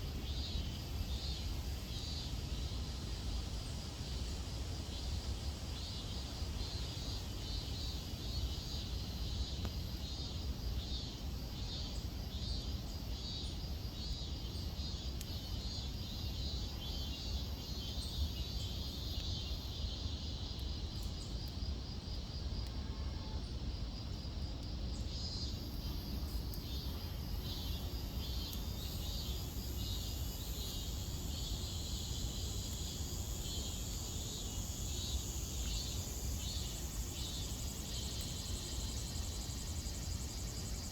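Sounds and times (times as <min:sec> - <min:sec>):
insects pulsing trill: 0:00.0 - 0:40.9
steady high hiss: 0:00.0 - 0:40.9.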